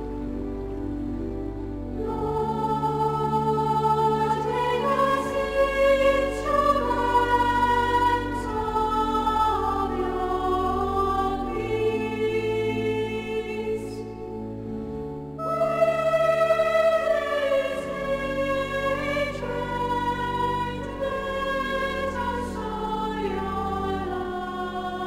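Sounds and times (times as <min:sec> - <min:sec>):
singing with accompaniment: 0:02.0 - 0:14.3, 0:15.4 - 0:25.0.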